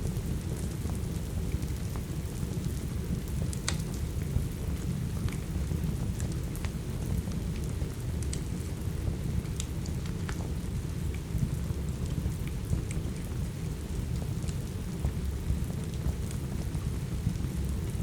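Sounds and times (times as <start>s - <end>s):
steady rain: 0.0s - 18.0s
wood fire crackling: 0.2s - 18.0s.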